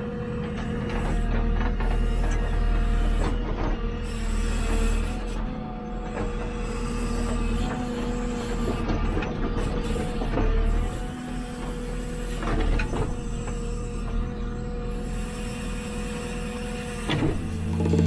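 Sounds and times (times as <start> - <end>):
diesel engine under load: 0.0 - 18.0
hydraulic whine: 0.0 - 18.0.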